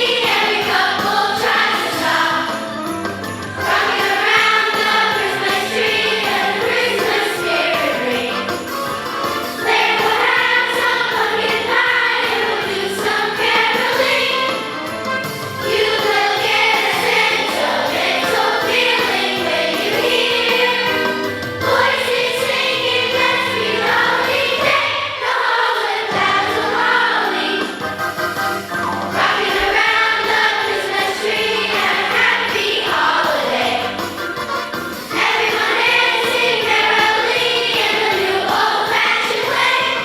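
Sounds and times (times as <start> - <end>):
choir singing: 0.0 - 34.2, 35.0 - 40.0
instrumental accompaniment: 0.0 - 40.0.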